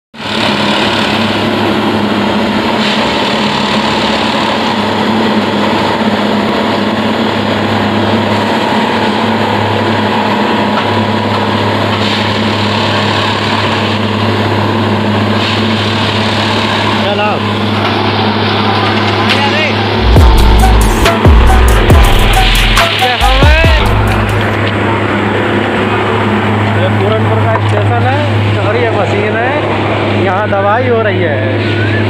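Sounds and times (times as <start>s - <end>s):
track-tamping machine engine hum: 0.2s - 32.0s.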